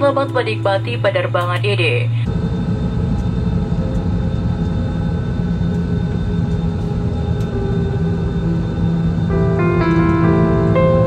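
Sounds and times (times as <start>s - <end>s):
airliner cabin rumble: 0.0s - 11.0s
steady hums: 0.0s - 11.0s.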